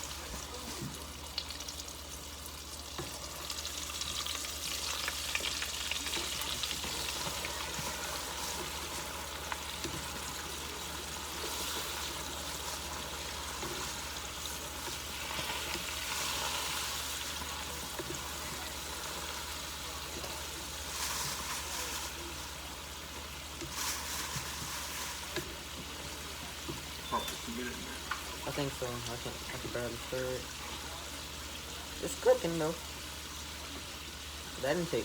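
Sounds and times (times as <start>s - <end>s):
shrimp sizzling in hot oil: 0.0s - 35.0s.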